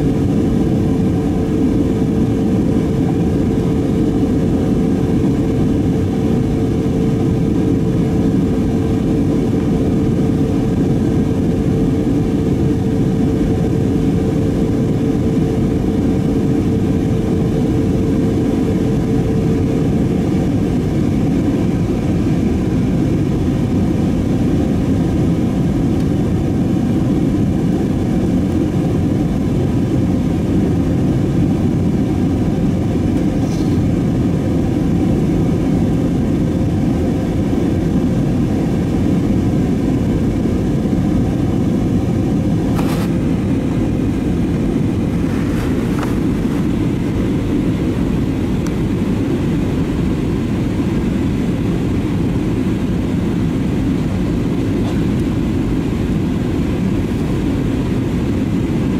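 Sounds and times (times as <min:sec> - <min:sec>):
engine and airflow rush: 0:00.0 - 0:58.9
steady hum: 0:00.0 - 0:58.9.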